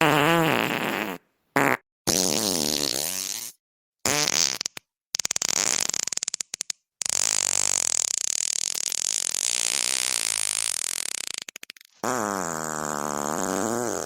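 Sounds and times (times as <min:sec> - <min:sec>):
farting: 0:00.0 - 0:14.0.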